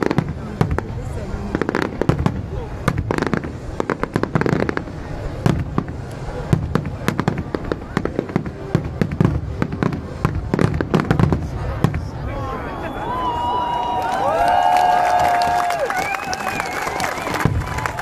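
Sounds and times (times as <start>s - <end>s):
fireworks bangs and crackling: 0.0s - 12.7s, 14.5s - 18.0s.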